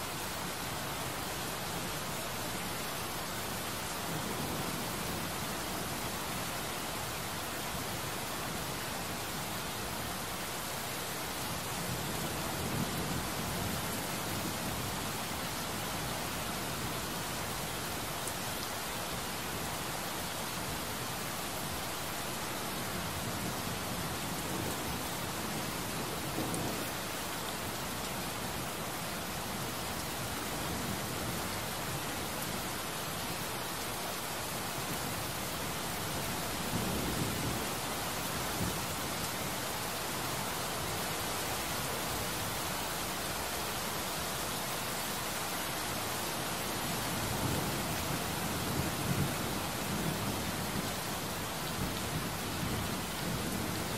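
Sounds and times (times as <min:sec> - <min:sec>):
heavy rain on hard surface: 0:00.0 - 0:53.9.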